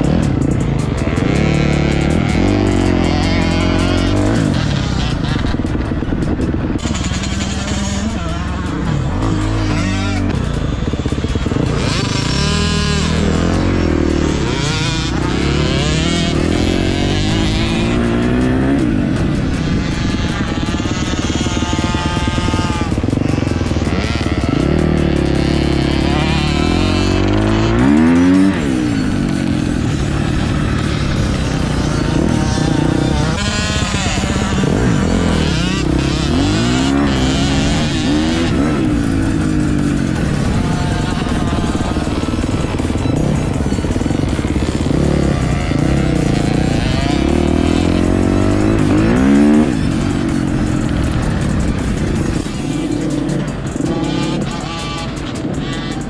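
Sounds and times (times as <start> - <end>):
motocross bike engines accelerating: 0.0 - 56.0.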